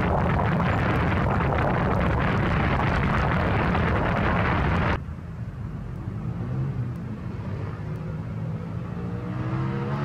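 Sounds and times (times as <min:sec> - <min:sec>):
low traffic engine rumble: 0:00.0 - 0:09.1
truck engine and tyre noise: 0:00.0 - 0:10.0.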